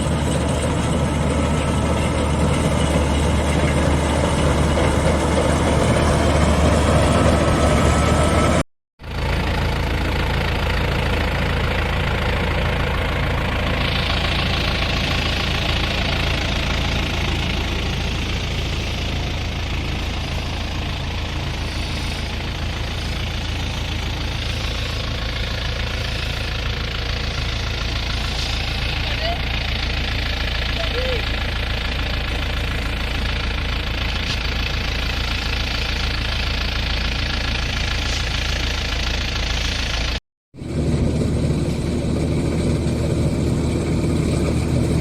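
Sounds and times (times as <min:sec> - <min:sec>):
combine harvester engine hum: 0:00.0 - 0:45.0
rushing machinery noise: 0:00.0 - 0:45.0.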